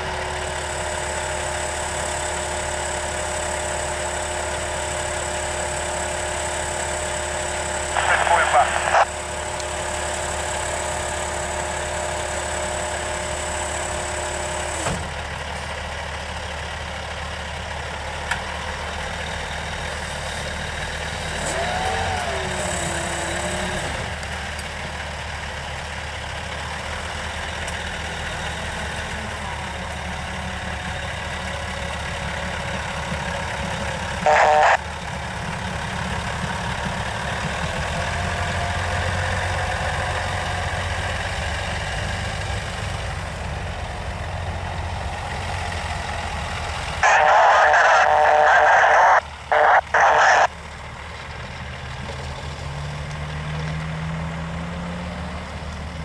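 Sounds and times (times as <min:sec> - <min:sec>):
diesel engine idling: 0:00.0 - 0:53.5.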